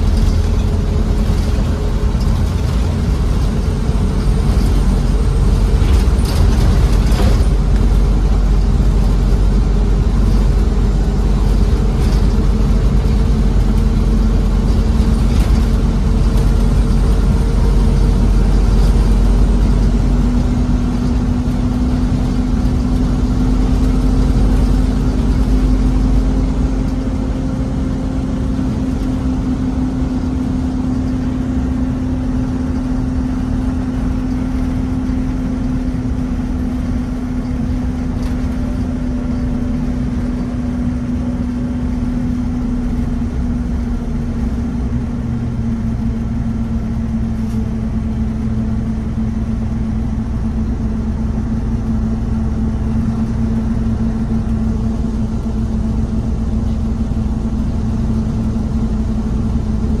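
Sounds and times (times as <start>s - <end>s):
bus diesel engine droning: 0.0s - 60.0s.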